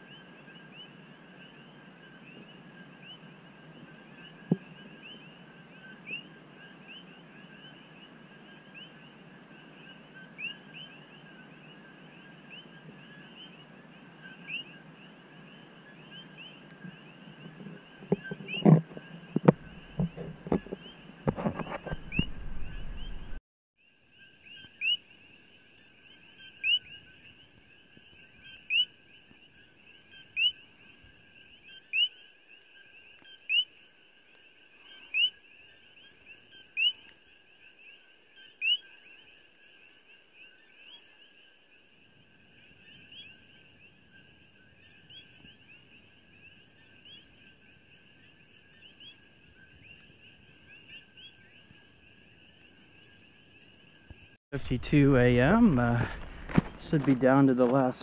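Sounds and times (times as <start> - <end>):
frog chorus: 0.0 - 58.0.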